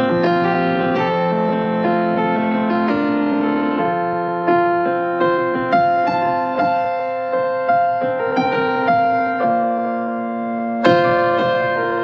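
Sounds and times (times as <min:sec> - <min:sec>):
slow keyboard music: 0:00.0 - 0:12.0.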